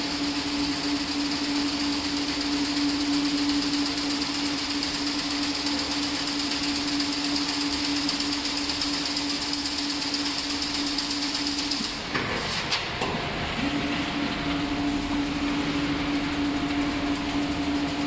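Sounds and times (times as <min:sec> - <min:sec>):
fence weaving machine running: 0:00.0 - 0:18.0
steady machine hum: 0:00.0 - 0:18.0.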